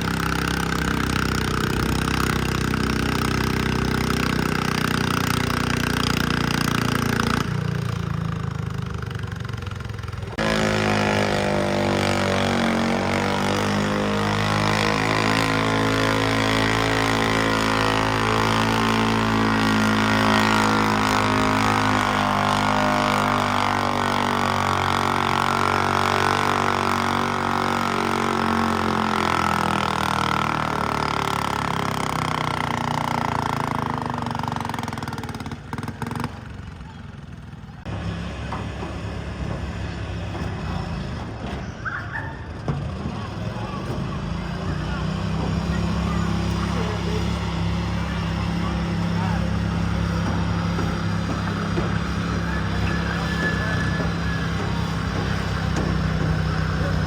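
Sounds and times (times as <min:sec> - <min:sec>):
tractor engine running under load: 0:00.0 - 0:57.0.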